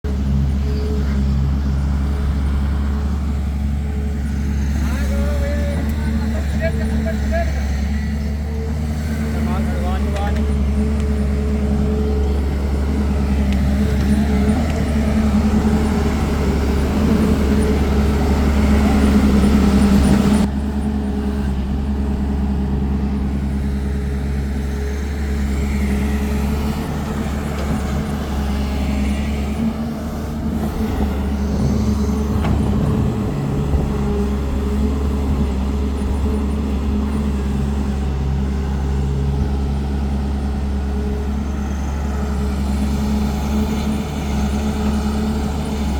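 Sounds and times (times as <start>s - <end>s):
heavy diesel engines droning: 0.0s - 45.9s.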